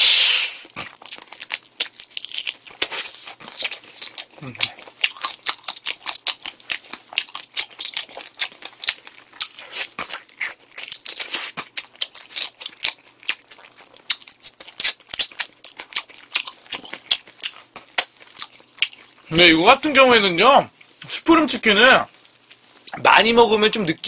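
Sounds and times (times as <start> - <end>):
man chewing crunchy chicken: 0.6 - 19.3, 22.1 - 23.0.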